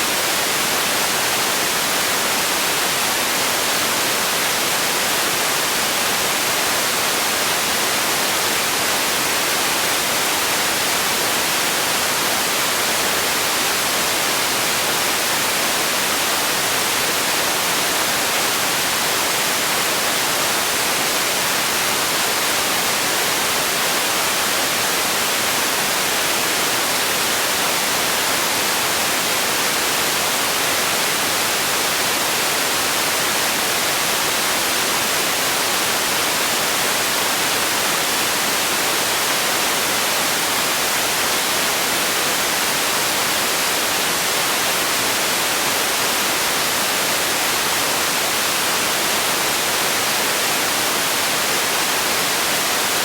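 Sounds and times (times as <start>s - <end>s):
white noise hiss: 0.0s - 53.0s.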